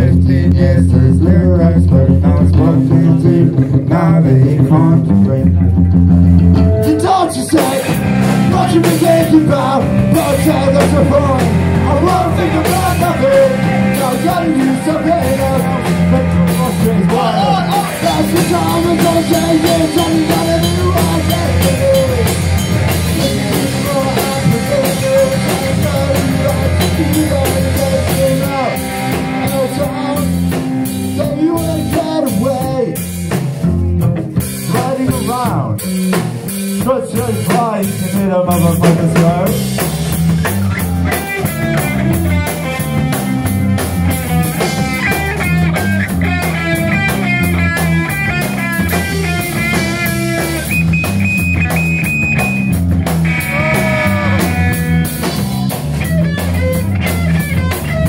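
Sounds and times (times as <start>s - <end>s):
live rock band: 0.0s - 58.0s
high guitar riff: 1.6s - 34.6s, 38.5s - 58.0s.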